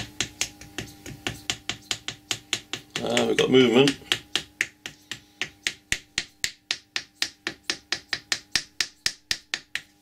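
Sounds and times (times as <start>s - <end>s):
hammer tapping on wooden drift: 0.0s - 10.0s.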